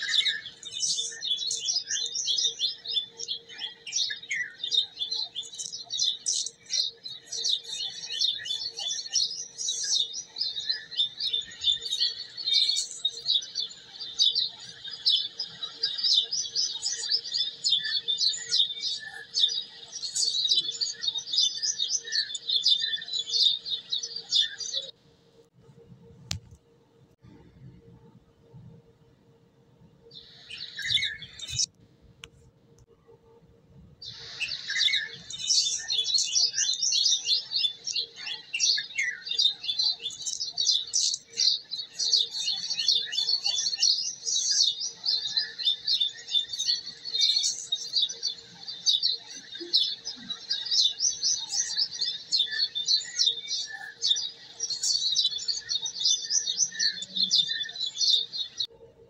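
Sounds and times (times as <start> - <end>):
small birds chirping: 0.0 - 26.6, 30.0 - 33.0, 34.0 - 58.8.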